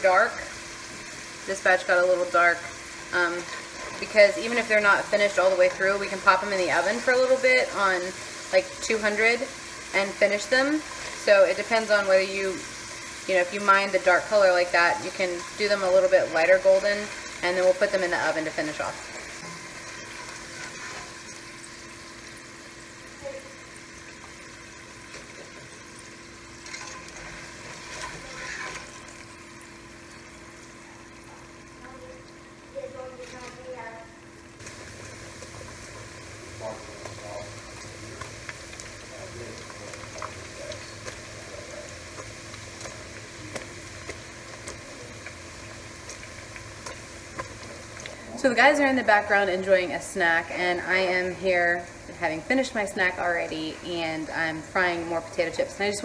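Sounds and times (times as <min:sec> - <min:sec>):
potato slices deep-frying in oil: 0:00.0 - 0:56.0.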